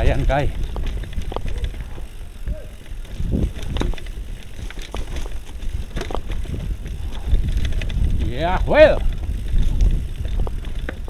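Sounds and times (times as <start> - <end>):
bike rattling and knocking: 0.0 - 11.0
wind rumble on microphone: 0.0 - 11.0.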